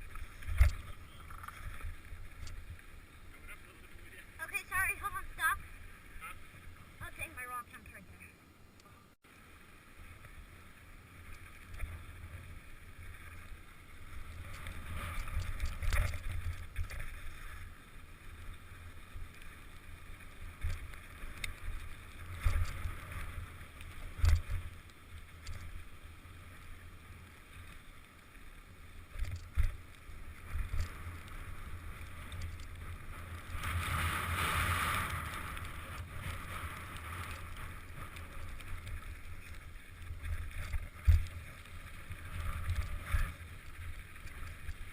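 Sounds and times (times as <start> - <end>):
bike rolling on dirt trail: 0.0 - 7.7, 9.2 - 44.9.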